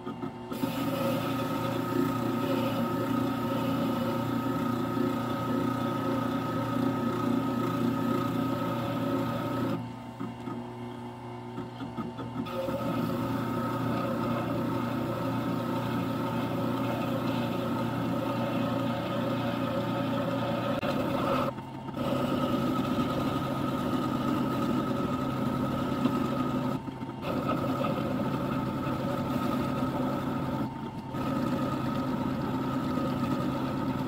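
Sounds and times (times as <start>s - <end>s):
grinder motor running: 0.0s - 34.0s.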